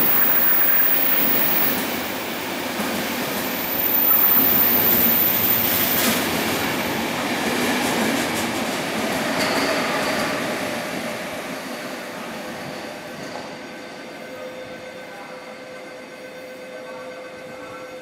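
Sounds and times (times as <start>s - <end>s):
train wheels on rail: 0.0s - 18.0s.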